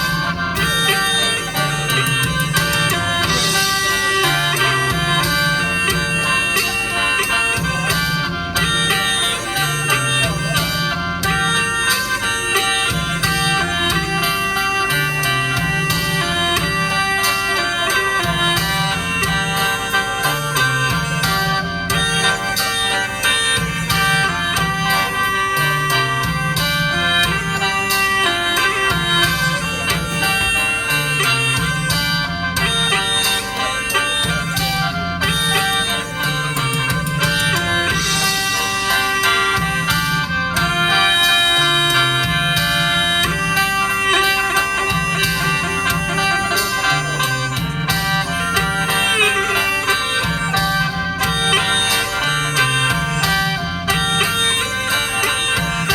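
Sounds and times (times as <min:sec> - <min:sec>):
mouth organ playing folk tune: 0:00.0 - 0:55.9
plucked string instrument: 0:00.0 - 0:55.9.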